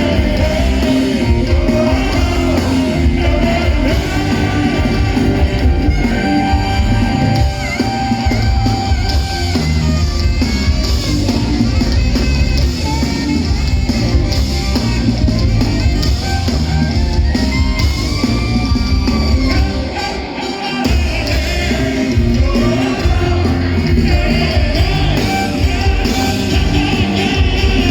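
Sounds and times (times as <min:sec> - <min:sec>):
rock band playing: 0:00.0 - 0:27.9.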